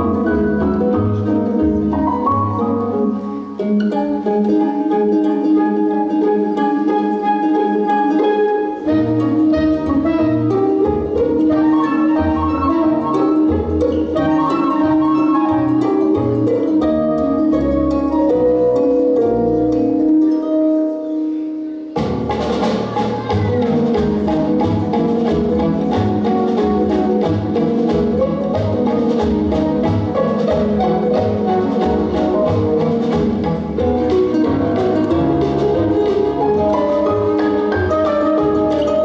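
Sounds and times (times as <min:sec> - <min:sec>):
instrumental music: 0:00.0 - 0:39.0.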